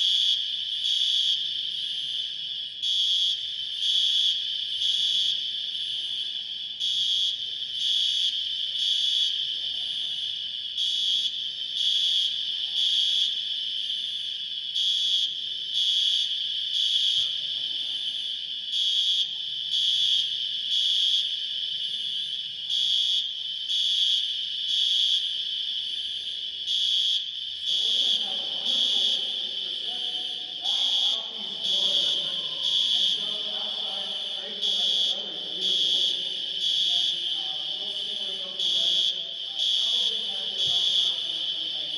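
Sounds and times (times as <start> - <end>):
smoke alarm beeping: 0.0 - 41.9.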